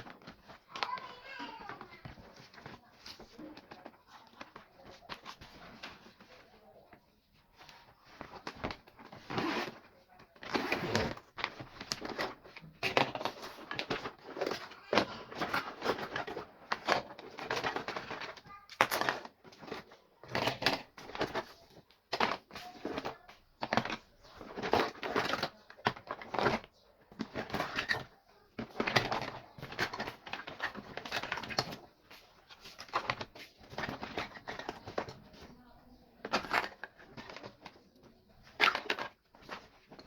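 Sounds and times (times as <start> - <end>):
plastic toys clicking and tapping: 0.0 - 40.0
packaging crinkling: 7.6 - 40.0.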